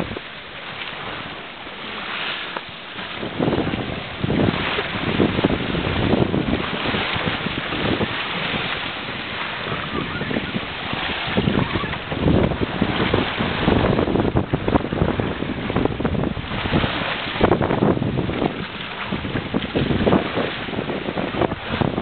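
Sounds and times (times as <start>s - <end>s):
water washing along boat hull: 0.0s - 22.0s
wind buffeting microphone: 0.0s - 22.0s.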